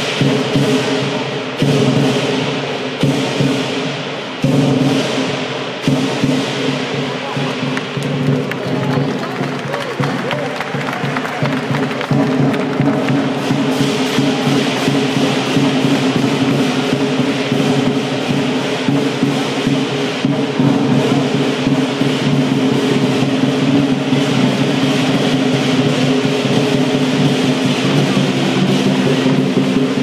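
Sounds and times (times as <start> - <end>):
clashing cymbals: 0.0 - 30.0
drum beating fast rhythm: 0.0 - 30.0.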